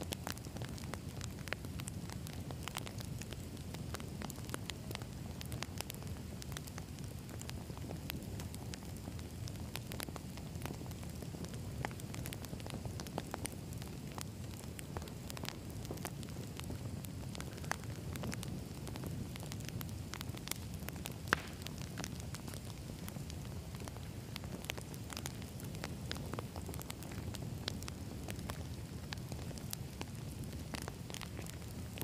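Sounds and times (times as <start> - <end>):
burning logs crackling and popping: 0.0 - 32.0
low rumble of flames: 0.0 - 32.0.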